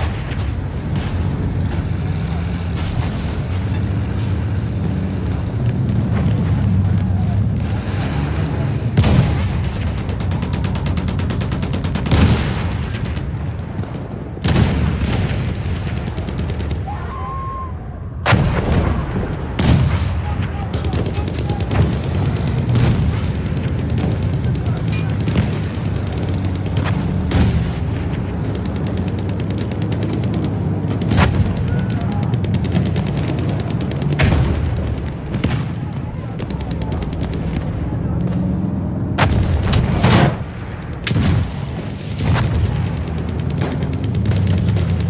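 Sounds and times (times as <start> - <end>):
gunshots cracking: 0.0 - 17.2, 18.2 - 45.0
rapid gunfire: 0.0 - 17.6, 18.3 - 45.0
low rumble of distant firing: 0.0 - 45.0.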